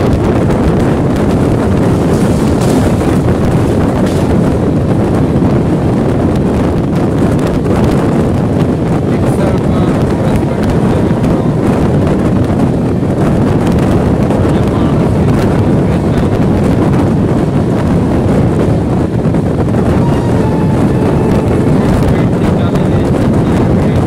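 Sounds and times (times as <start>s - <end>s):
moving train rumbling: 0.0s - 24.0s
wind buffeting microphone: 0.0s - 24.0s.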